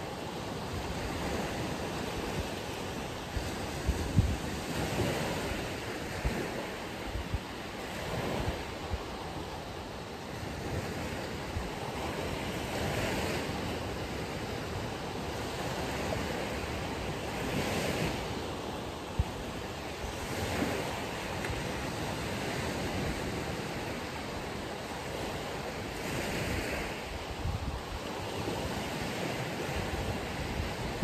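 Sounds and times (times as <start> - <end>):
ocean surf breaking: 0.0 - 31.0
wind buffeting microphone: 0.0 - 31.0.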